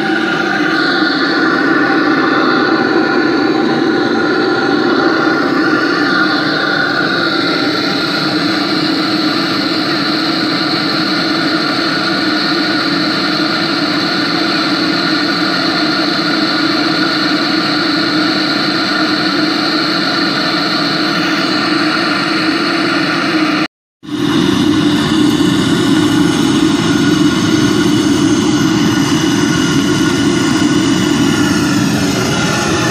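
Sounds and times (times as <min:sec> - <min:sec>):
propane burner rushing: 0:00.0 - 0:32.9.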